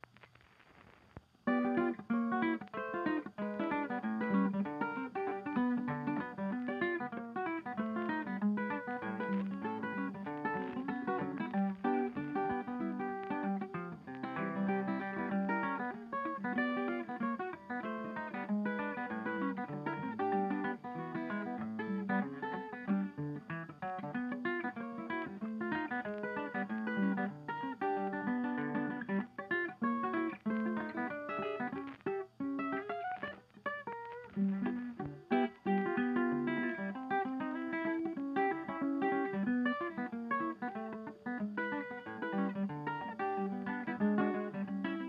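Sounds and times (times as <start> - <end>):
acoustic guitar picking: 0.8 - 45.0.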